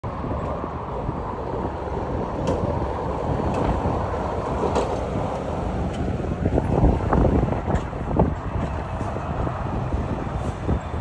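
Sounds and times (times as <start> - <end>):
distant jet engine rumble: 0.0 - 11.0
wind buffeting microphone: 0.0 - 11.0.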